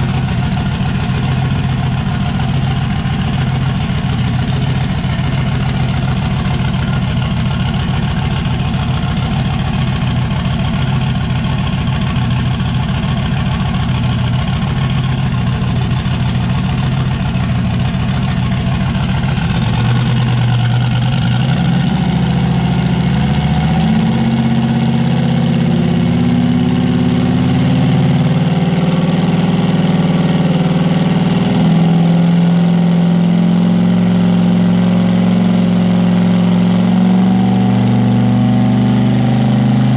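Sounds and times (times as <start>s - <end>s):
engine idling with lumpy beat: 0.0s - 32.0s.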